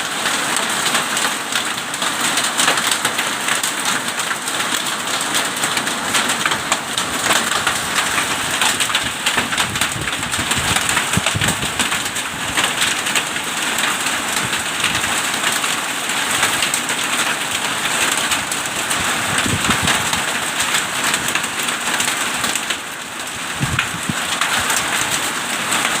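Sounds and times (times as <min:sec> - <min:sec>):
hail and heavy rain pelting: 0:00.0 - 0:26.0.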